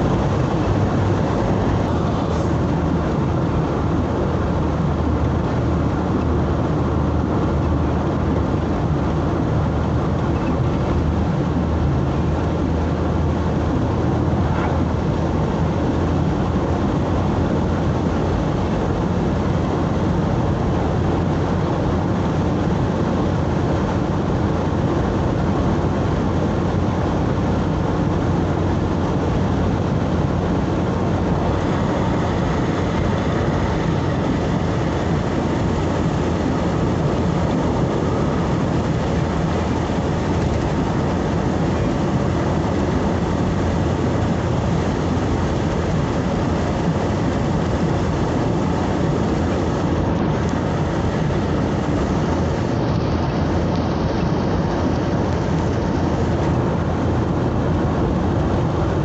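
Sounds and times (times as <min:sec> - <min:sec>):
vehicle road and engine noise: 0:00.0 - 0:59.0.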